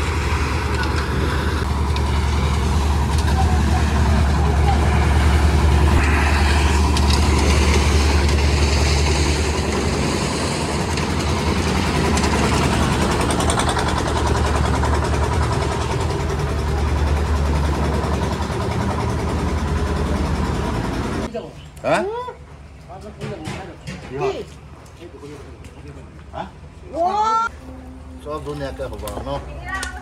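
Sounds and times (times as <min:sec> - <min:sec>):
concrete mixer engine droning: 0:00.0 - 0:22.8, 0:24.6 - 0:30.0.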